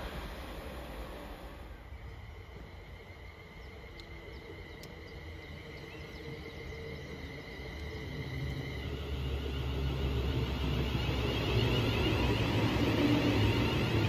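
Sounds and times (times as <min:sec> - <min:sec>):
faint train rumble: 0:00.0 - 0:14.0
steady high hum: 0:00.0 - 0:14.0.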